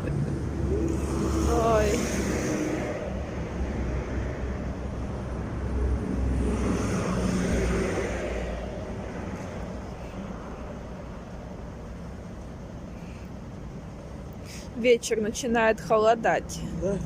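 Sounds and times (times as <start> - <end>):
vehicle passing on road: 0.0 - 14.8.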